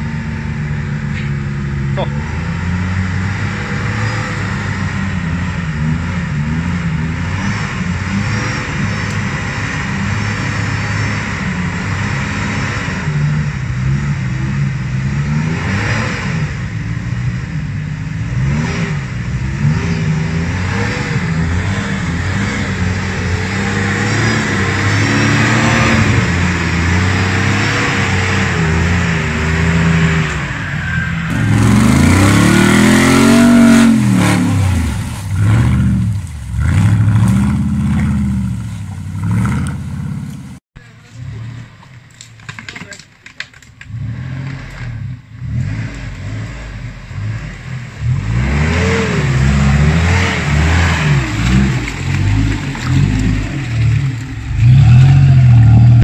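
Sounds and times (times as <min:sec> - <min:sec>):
off-road engine revving in mud: 0:00.0 - 0:56.0
second engine revving hard: 0:01.9 - 0:16.7, 0:18.1 - 0:41.8, 0:43.9 - 0:56.0.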